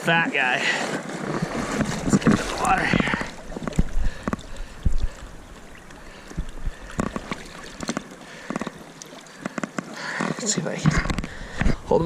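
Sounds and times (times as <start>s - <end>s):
river water splashing: 0.8s - 12.0s.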